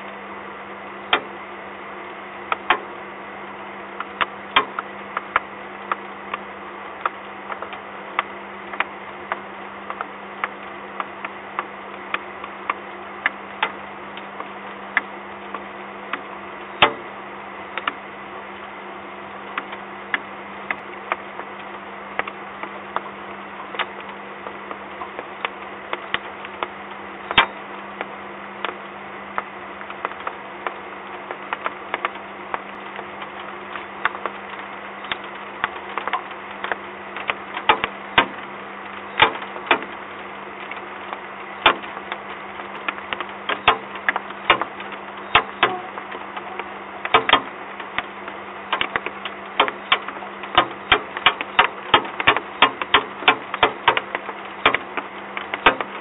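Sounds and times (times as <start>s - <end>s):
low electrical hum: 0.0s - 56.0s
raindrops ticking on hard surfaces: 2.5s - 17.1s, 17.7s - 56.0s.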